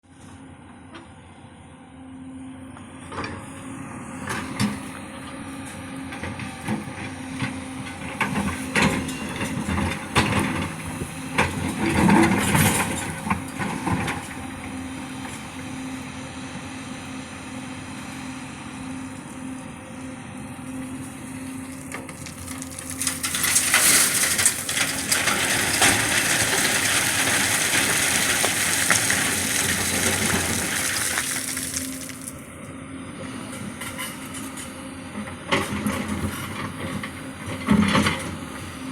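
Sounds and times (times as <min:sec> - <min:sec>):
excavator engine humming: 0:00.4 - 0:38.9.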